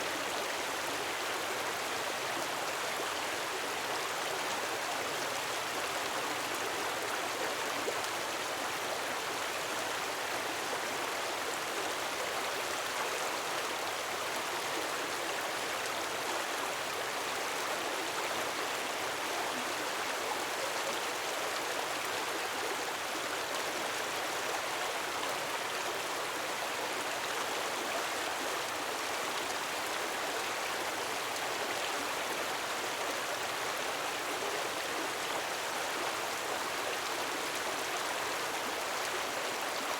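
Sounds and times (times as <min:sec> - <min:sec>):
gentle waterfall: 0:00.0 - 0:39.9.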